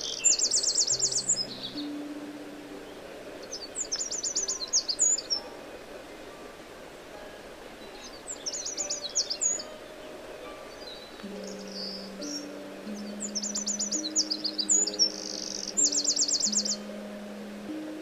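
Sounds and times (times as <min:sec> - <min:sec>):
wren trilling: 0:00.0 - 0:18.0.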